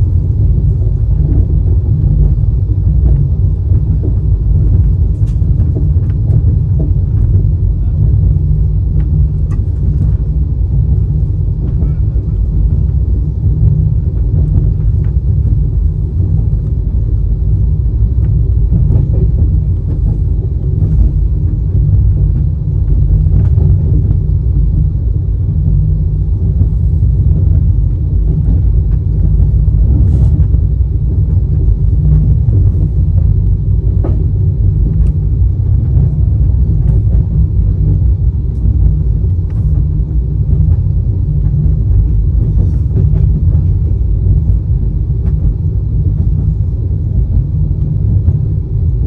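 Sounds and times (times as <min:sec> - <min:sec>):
train rumbling on board: 0:00.0 - 0:49.0.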